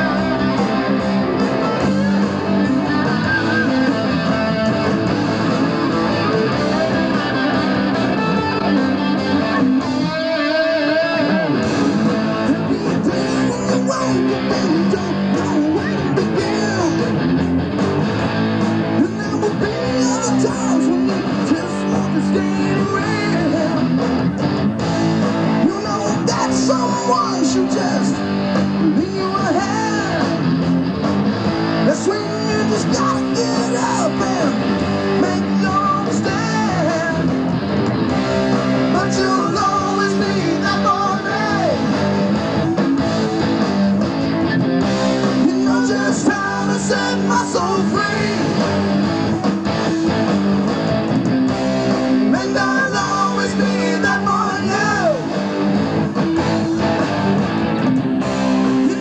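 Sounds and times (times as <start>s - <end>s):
live rock band: 0.0s - 59.0s.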